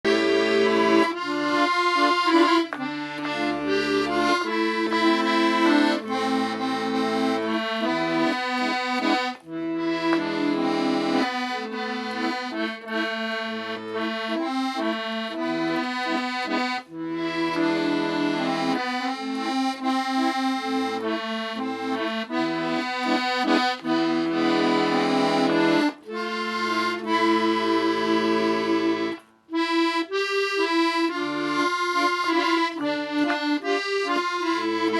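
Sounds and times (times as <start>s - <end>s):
accordion playing a tune: 0.0s - 34.9s.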